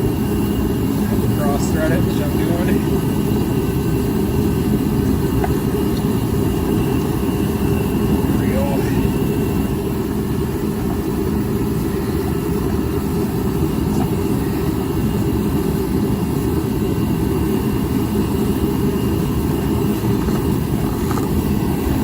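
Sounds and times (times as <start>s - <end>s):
forced-air heater running: 0.0s - 22.0s.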